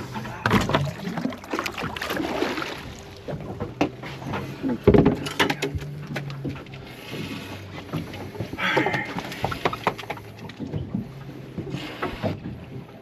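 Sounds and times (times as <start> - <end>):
knocks and scrapes on boat deck: 0.0 - 1.1, 3.0 - 13.0
steady low hum: 0.0 - 13.0.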